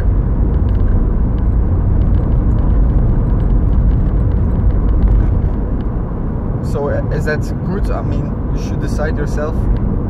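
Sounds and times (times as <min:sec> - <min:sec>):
loud low rumble: 0:00.0 - 0:08.6.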